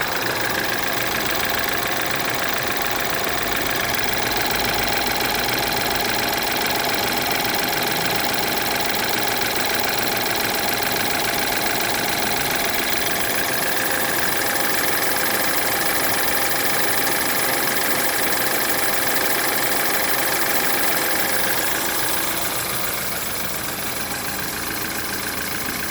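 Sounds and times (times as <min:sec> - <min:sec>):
timing chain noise: 0:00.0 - 0:23.8
car engine running: 0:00.0 - 0:25.9.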